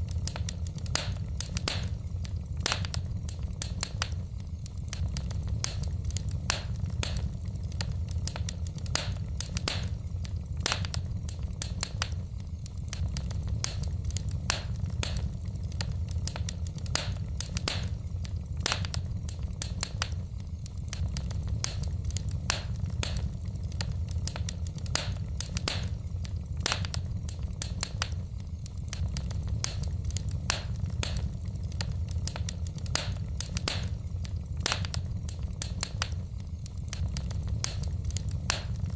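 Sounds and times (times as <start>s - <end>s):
low fire rumble: 0.0s - 38.9s
pops and snaps of burning logs: 0.0s - 38.9s
wood fire crackling: 0.0s - 38.9s.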